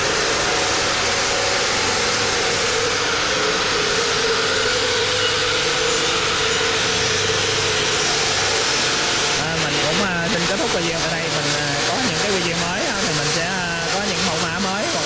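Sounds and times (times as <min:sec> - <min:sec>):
machine hissing and humming: 0:00.0 - 0:15.0.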